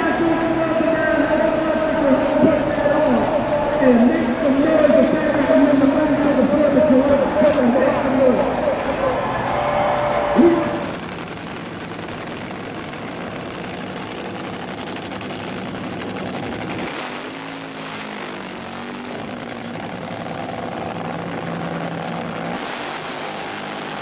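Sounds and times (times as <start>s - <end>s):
vehicle engines running: 0.0s - 24.0s.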